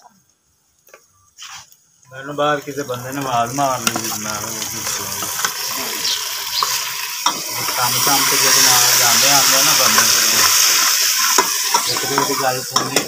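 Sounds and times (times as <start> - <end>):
spices sizzling in oil: 0.8 - 13.0.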